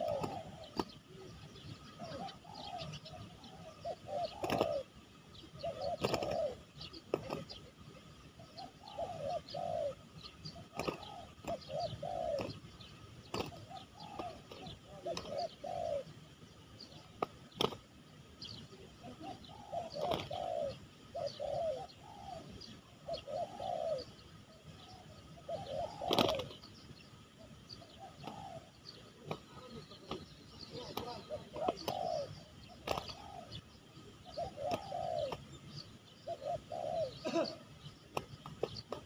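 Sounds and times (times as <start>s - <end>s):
doves cooing: 0.0s - 39.0s.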